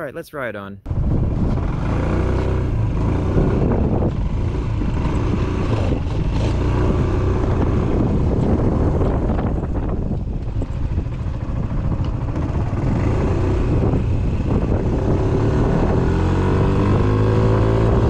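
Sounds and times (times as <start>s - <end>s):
scooter engine pulling away: 1.0s - 18.0s.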